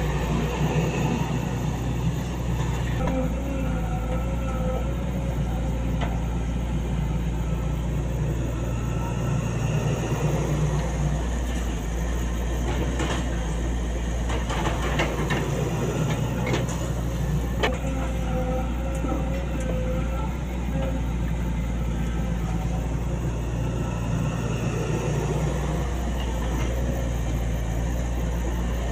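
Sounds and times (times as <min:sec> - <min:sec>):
excavator diesel engine running: 0:00.0 - 0:28.9.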